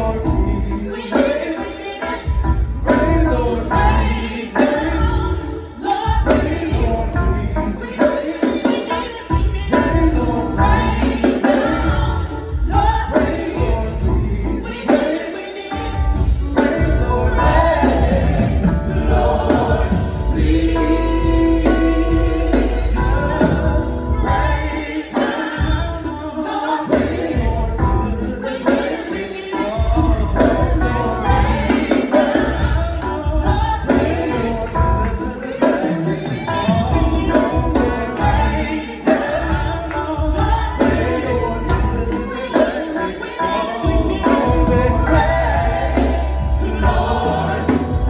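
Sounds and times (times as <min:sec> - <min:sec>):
band accompanying: 0:00.0 - 0:48.0
gospel choir singing: 0:00.0 - 0:48.0.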